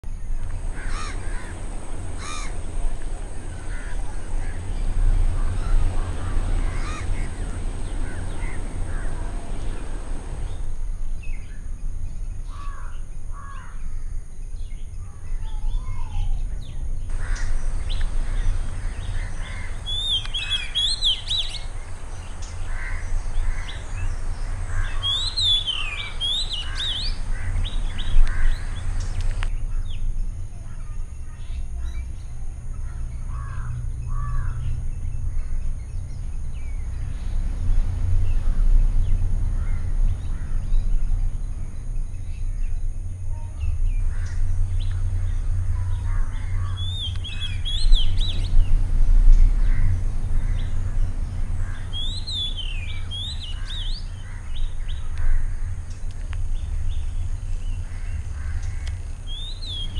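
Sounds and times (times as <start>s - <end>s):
steady low rumble: 0.0s - 59.9s
other birds calling: 0.2s - 10.7s, 15.0s - 32.2s, 32.8s - 59.9s.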